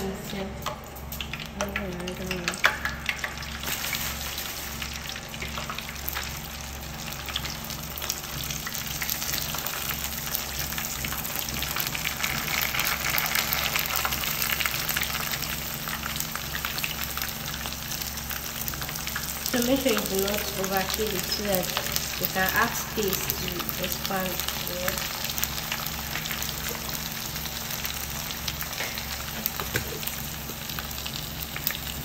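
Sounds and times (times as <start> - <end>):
prawn crackers sizzling in oil: 0.0 - 32.0.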